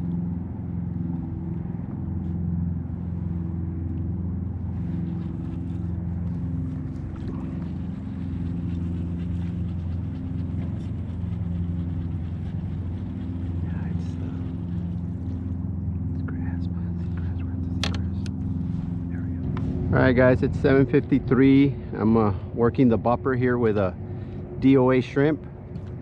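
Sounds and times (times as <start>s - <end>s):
small boat motor droning: 0.0s - 26.0s.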